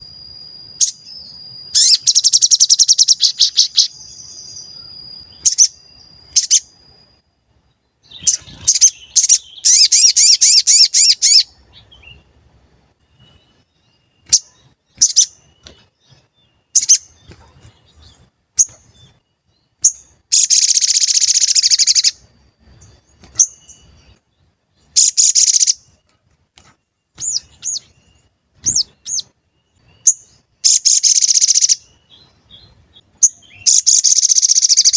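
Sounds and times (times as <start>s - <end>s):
bird chirping and trilling: 0.0s - 7.2s, 8.0s - 12.4s, 13.0s - 26.2s, 27.1s - 34.9s.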